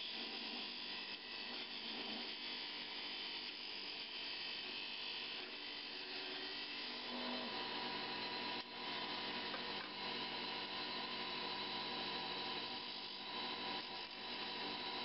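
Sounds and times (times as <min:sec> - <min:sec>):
turning tool cutting wood: 0:00.0 - 0:15.0
wood lathe humming: 0:00.0 - 0:15.0.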